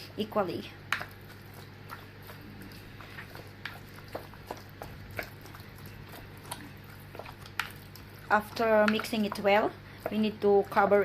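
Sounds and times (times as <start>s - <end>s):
steady low hum: 0.0s - 11.0s
chicken squishing in marinade: 0.6s - 11.0s.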